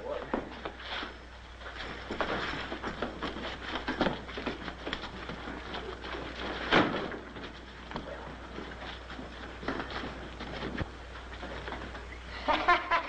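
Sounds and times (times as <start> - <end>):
shuffling footsteps: 0.0 - 13.0
scuffle knocks: 0.2 - 12.1.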